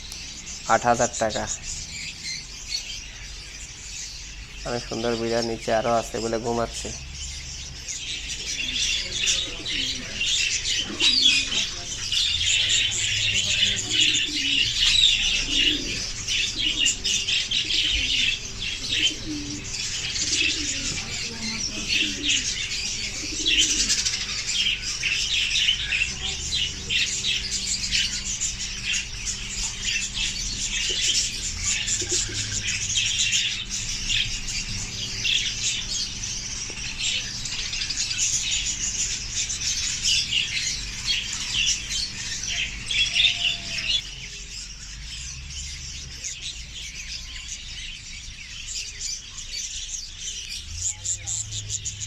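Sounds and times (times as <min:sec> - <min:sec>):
caged birds chirping: 0:00.0 - 0:52.0
steady low hum: 0:00.0 - 0:52.0.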